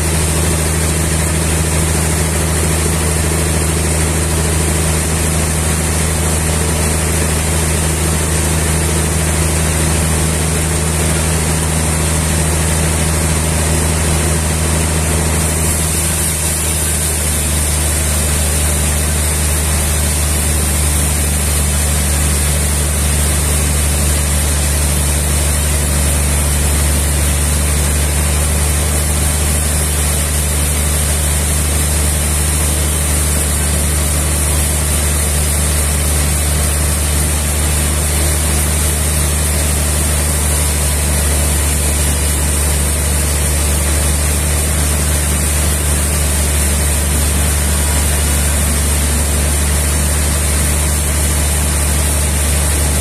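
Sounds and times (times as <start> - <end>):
sawmill engine humming: 0.0 - 53.0.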